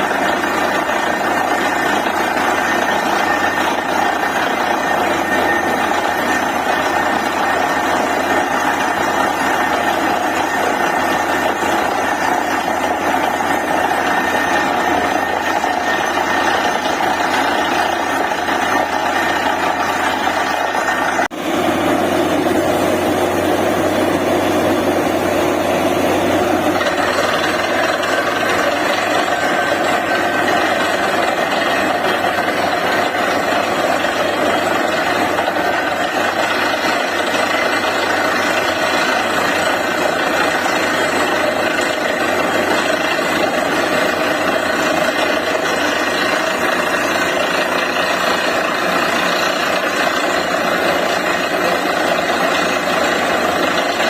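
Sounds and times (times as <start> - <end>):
drilling rig engine drone: 0.0 - 54.0.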